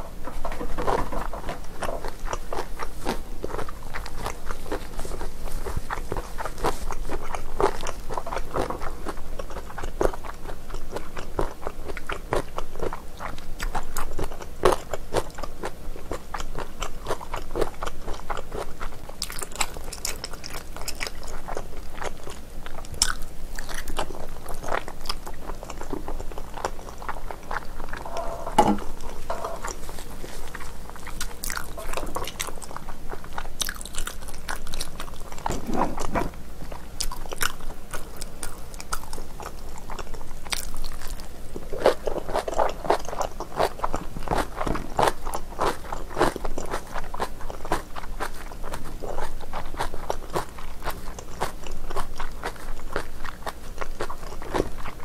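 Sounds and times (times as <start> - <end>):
close chewing and biting: 0.2 - 55.0.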